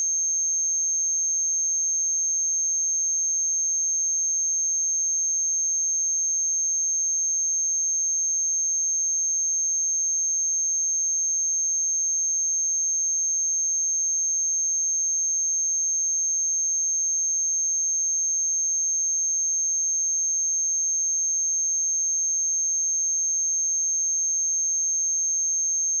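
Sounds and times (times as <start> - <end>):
high-pitched sine test tone: 0.0 - 26.0.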